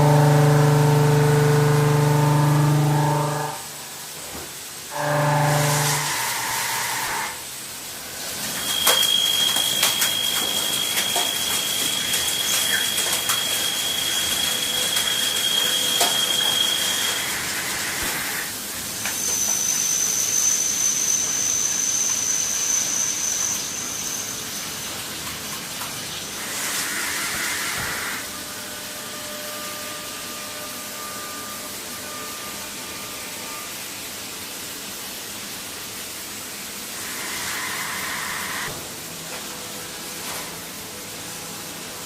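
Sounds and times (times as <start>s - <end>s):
machine rushing hiss and whine: 4.8s - 25.0s, 26.2s - 34.8s, 36.2s - 42.0s.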